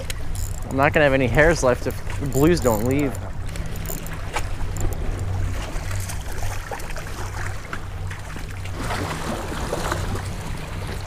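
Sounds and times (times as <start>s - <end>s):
steady low hum: 0.0s - 11.0s
water splashing against rocks: 0.0s - 11.0s.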